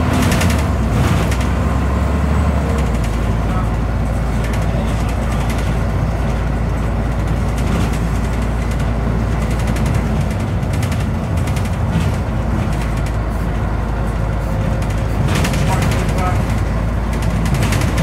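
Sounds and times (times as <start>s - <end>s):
bus diesel engine running: 0.0s - 18.0s
road noise: 0.0s - 18.0s.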